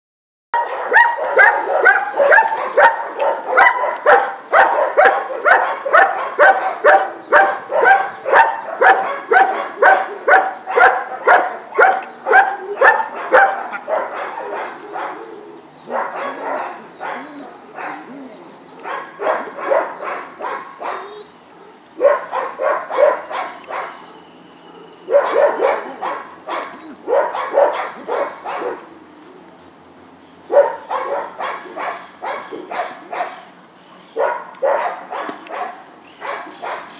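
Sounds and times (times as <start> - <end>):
dog barking: 0.6 - 15.3, 15.9 - 18.2, 18.8 - 28.8, 30.5 - 33.5, 34.2 - 36.9.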